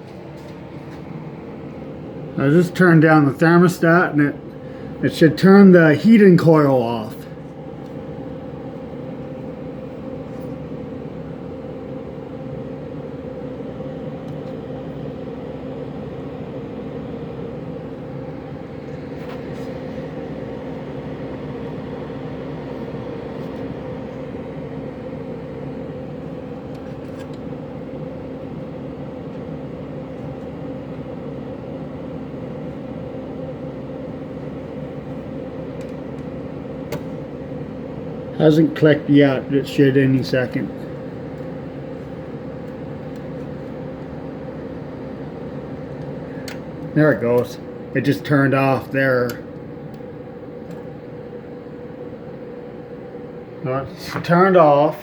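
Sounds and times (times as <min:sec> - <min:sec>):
heater fan humming: 0:00.0 - 0:55.0.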